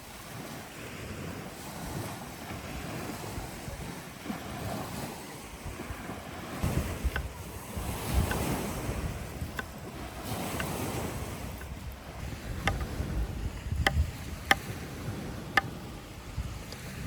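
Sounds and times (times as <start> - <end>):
waves washing on beach: 0.0 - 17.0
wind buffeting microphone: 0.0 - 17.0.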